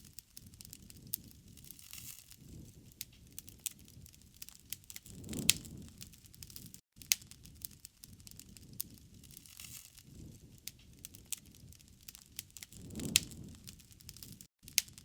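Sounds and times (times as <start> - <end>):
low rumble of flames: 0.0 - 15.0
sharp fire pops: 0.0 - 15.0
wood fire crackling: 0.0 - 15.0.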